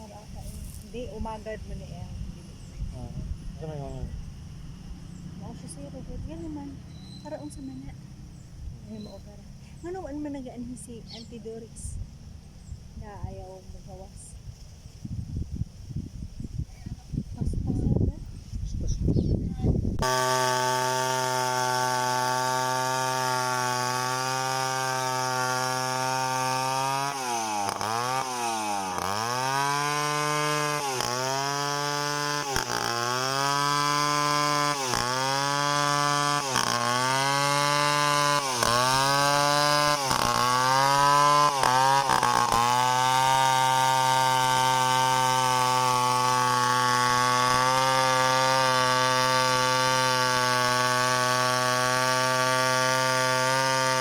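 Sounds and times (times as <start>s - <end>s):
chainsaw engine cutting wood: 0.0s - 14.2s, 19.8s - 54.0s.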